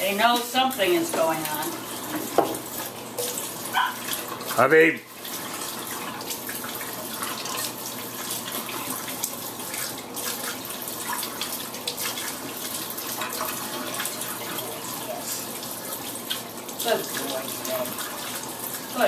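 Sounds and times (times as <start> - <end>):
tap water running: 0.0 - 19.0.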